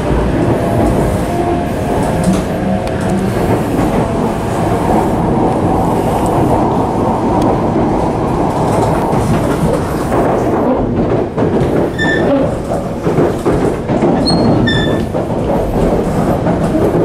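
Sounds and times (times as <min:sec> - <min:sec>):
train interior rumble: 0:00.0 - 0:17.0
wheels clicking over rail joints: 0:01.9 - 0:17.0.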